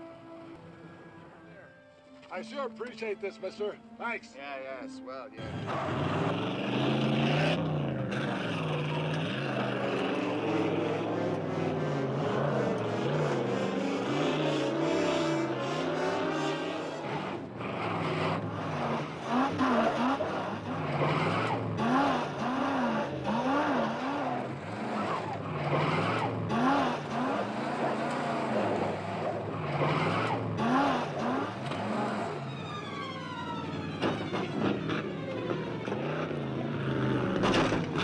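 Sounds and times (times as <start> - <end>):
car engine revving: 5.4 - 38.0
tyres skidding in gravel: 5.4 - 38.0.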